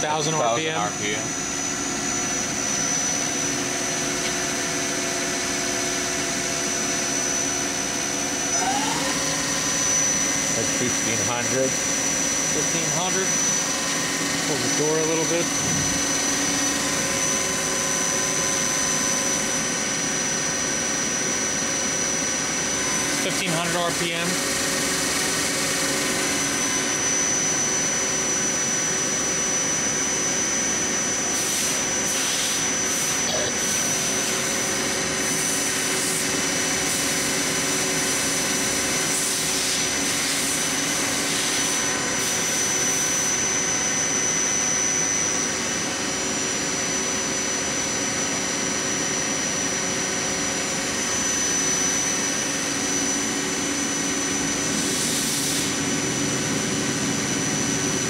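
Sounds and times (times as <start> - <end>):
lathe spindle running: 0.0 - 58.0.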